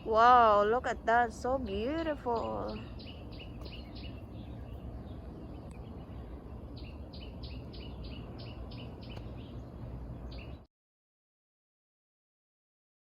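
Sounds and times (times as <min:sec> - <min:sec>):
low background rumble: 0:00.0 - 0:10.7.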